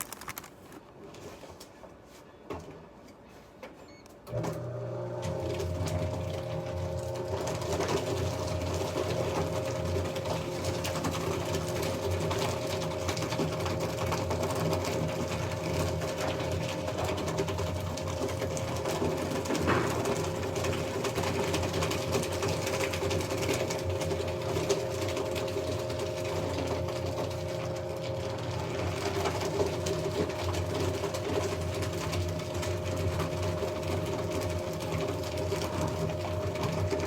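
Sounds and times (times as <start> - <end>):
paper shredder cutting paper: 0.0 - 0.8, 4.3 - 37.0.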